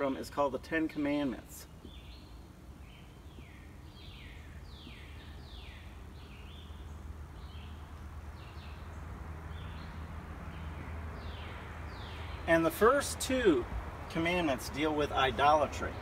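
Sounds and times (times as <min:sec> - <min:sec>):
birds chirping faintly: 0:00.0 - 0:16.0
low outdoor hum: 0:00.0 - 0:16.0.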